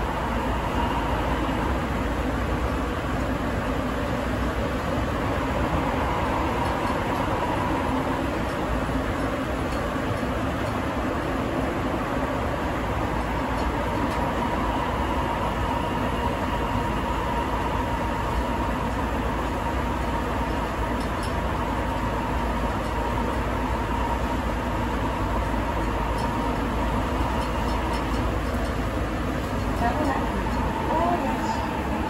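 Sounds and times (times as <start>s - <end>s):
steady whine: 0.0s - 32.0s
train running noise: 0.0s - 32.0s.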